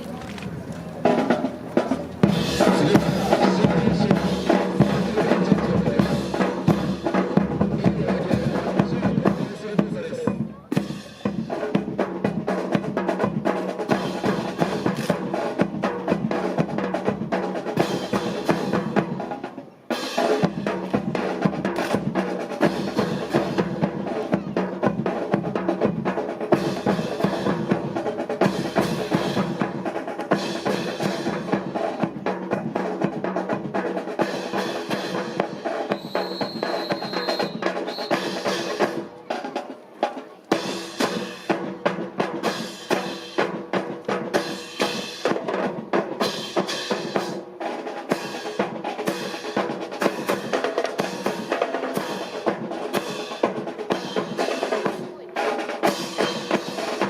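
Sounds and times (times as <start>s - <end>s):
marching snare and bass drums: 0.0s - 57.0s.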